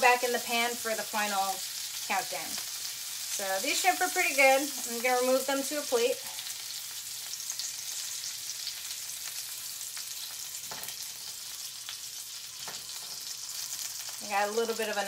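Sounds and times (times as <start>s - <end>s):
shrimp sizzling in a frying pan: 0.0s - 15.0s.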